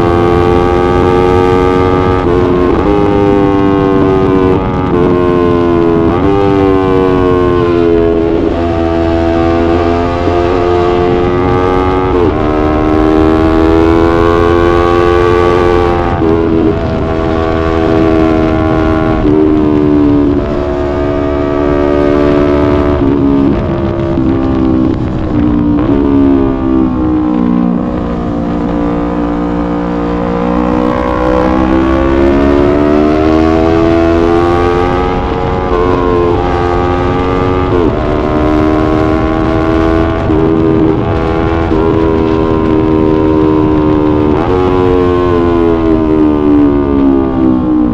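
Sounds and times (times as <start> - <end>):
low wind rumble: 0.0 - 47.9
motorcycle engine accelerating: 0.0 - 47.9.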